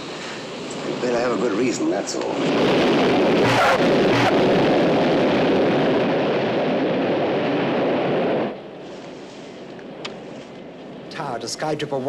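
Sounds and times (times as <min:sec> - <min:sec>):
jet engine and air rush: 0:00.0 - 0:12.0.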